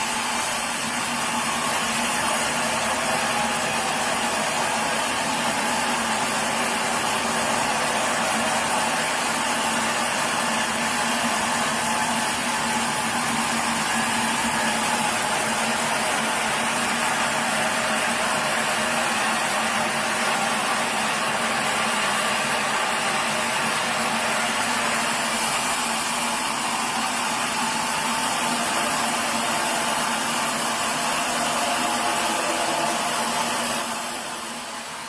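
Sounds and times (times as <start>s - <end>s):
sawmill machine noise: 0.0s - 35.0s.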